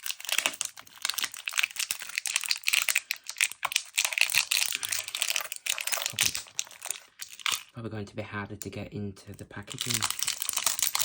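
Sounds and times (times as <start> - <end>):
plastic packaging crinkling and tearing: 0.0 - 7.8, 9.6 - 11.0.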